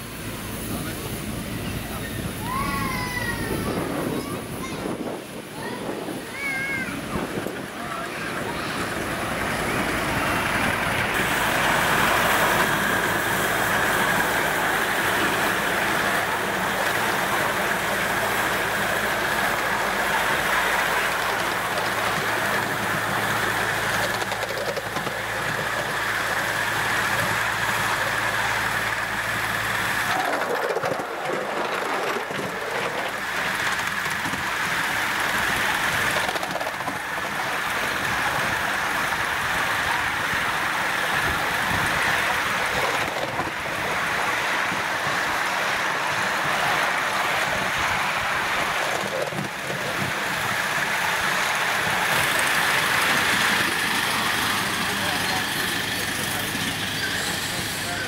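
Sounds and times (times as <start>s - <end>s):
model steam locomotive rushing: 0.0s - 58.0s.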